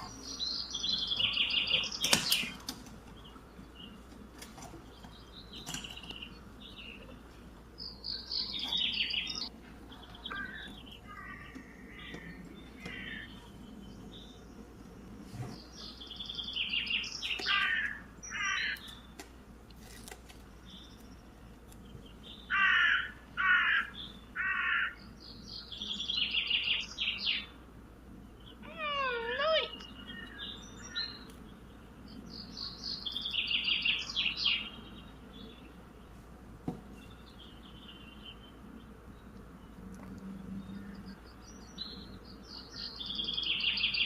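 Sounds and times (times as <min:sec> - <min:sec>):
harsh bird calls: 0:00.0 - 0:19.2, 0:20.6 - 0:27.6, 0:28.2 - 0:36.1, 0:36.9 - 0:44.0
birds twittering and chirping: 0:00.0 - 0:44.0.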